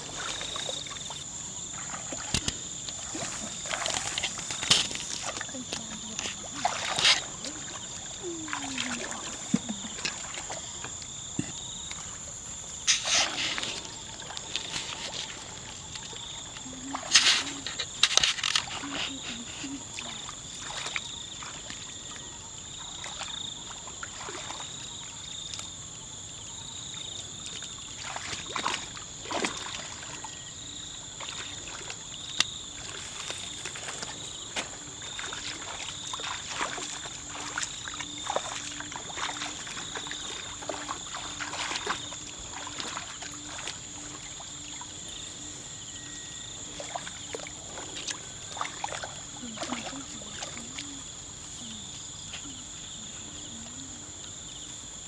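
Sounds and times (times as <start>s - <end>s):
insect chirring: 0.0s - 55.0s
muddy water sloshing and splashing: 0.0s - 55.0s.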